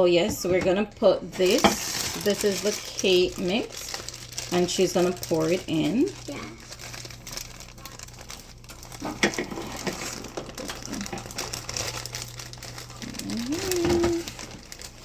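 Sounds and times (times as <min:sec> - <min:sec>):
plastic bag crinkling: 0:00.8 - 0:15.0.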